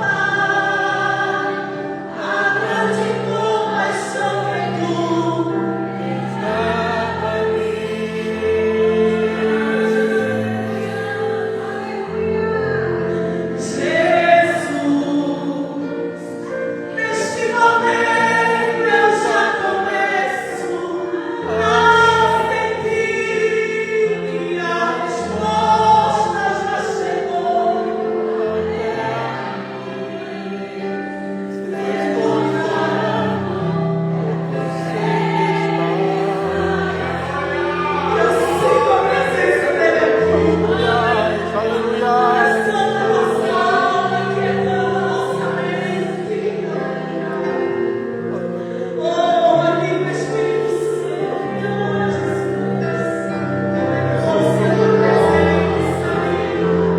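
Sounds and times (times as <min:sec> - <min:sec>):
choir singing gospel: 0:00.0 - 0:56.9.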